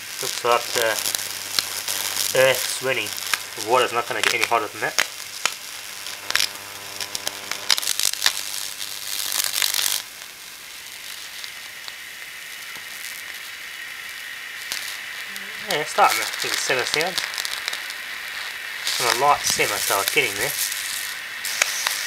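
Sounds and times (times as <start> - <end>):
electric arc crackling and buzzing: 0.0 - 22.0
mains hum: 0.0 - 22.0
steady hiss: 0.0 - 22.0.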